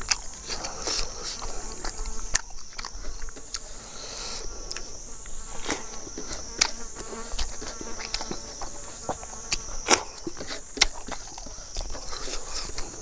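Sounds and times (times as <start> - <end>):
chewing clicks: 0.0 - 3.8, 4.6 - 13.0
insects buzzing: 0.0 - 13.0.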